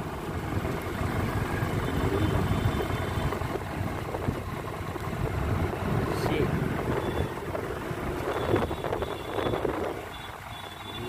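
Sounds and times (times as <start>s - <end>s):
idling vehicle engines and traffic: 0.0s - 11.0s.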